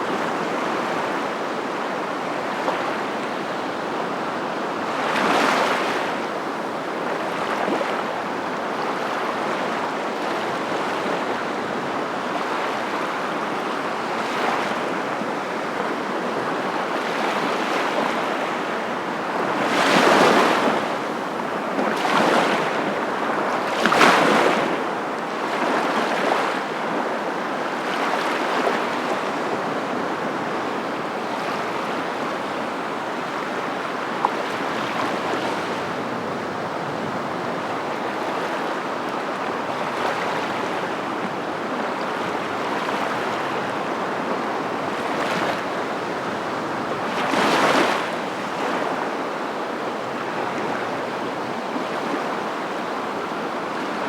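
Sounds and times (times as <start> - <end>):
waves rushing: 0.0 - 54.0.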